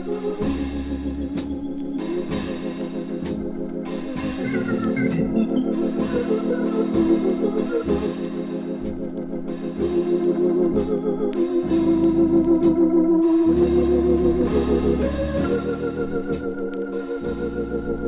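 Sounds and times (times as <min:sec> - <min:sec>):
deep bass notes: 0:00.0 - 0:18.0
organ playing jazz chords: 0:00.0 - 0:18.0.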